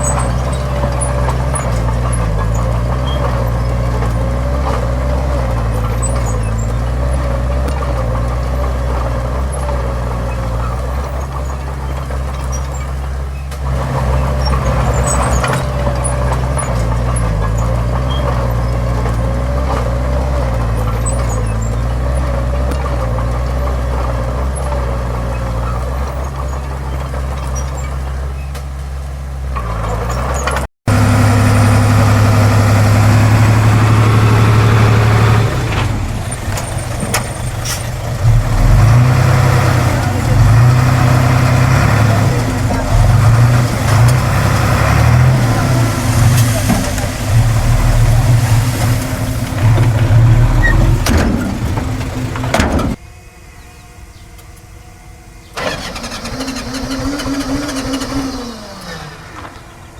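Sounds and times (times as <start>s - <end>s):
earthmoving machinery diesel engines: 0.0s - 59.9s.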